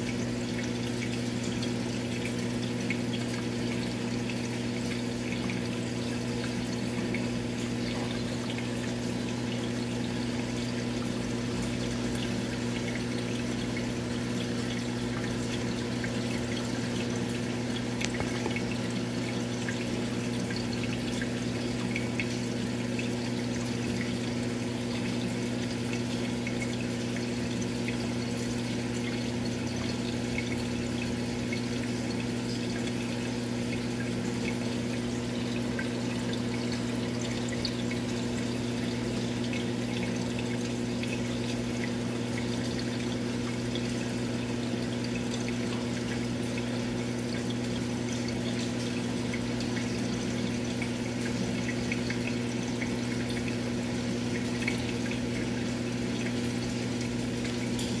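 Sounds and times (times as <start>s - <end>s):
aquarium pump humming: 0.0s - 58.0s
water trickling and pouring: 0.0s - 58.0s.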